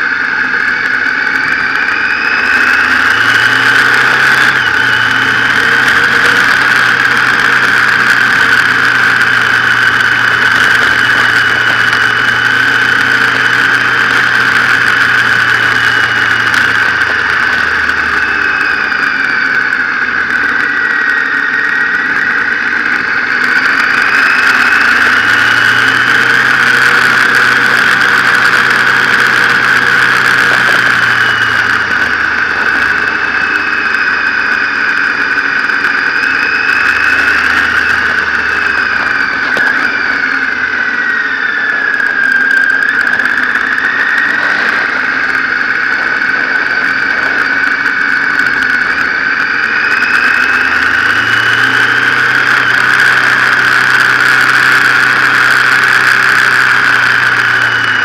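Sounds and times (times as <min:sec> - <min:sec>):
high-pitched whine: 0:00.0 - 0:58.0
motorcycle engine running: 0:00.0 - 0:58.0.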